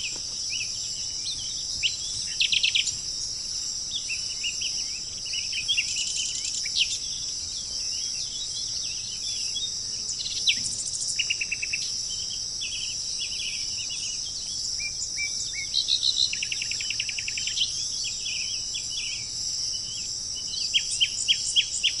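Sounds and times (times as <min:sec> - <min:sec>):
birds chirping and trilling: 0:00.0 - 0:22.0
high-pitched insect drone: 0:00.0 - 0:22.0.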